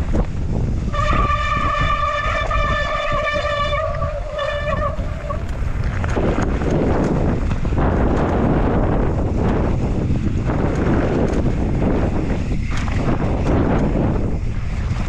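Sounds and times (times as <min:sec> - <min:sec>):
bike rattling over rough trail: 0:00.0 - 0:15.0
bike whine: 0:00.0 - 0:15.0
wind on microphone: 0:00.0 - 0:15.0.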